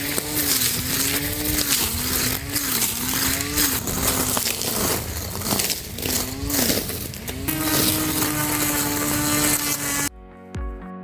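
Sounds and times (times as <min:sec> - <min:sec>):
electric grass cutter motor whine: 0:00.0 - 0:10.1.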